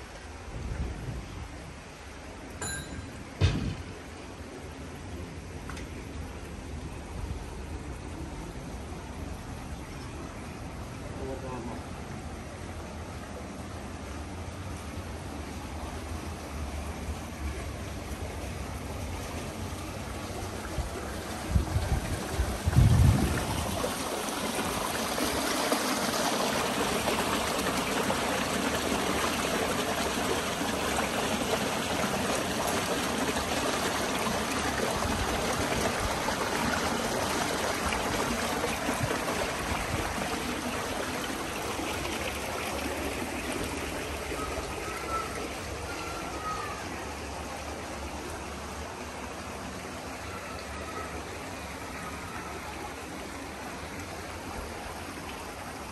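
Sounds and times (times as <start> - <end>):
water rushing in channel: 0.0 - 55.9.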